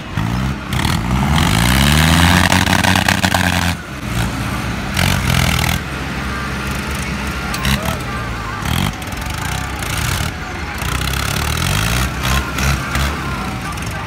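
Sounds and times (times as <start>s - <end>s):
tractor engines revving: 0.0s - 14.0s.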